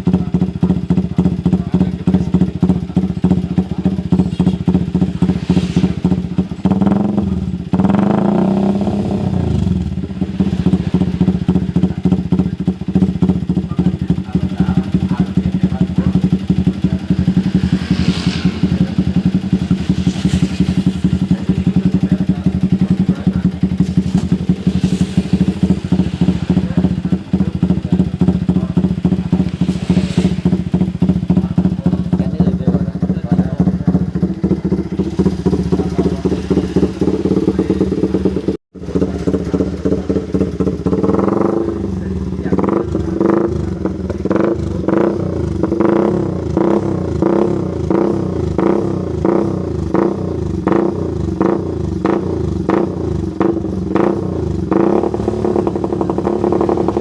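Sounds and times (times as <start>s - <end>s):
motorcycle idling and revving: 0.0s - 57.0s.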